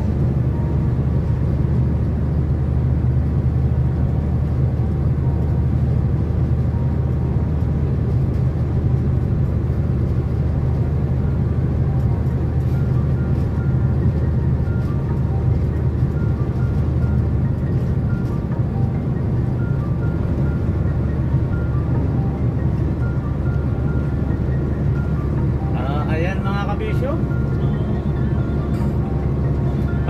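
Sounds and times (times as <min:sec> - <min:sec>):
truck engine drone and road noise: 0:00.0 - 0:30.0.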